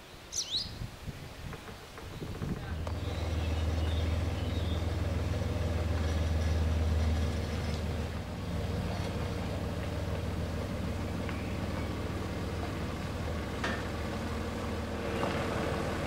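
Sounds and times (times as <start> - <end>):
low vehicle engine: 1.4 - 16.0.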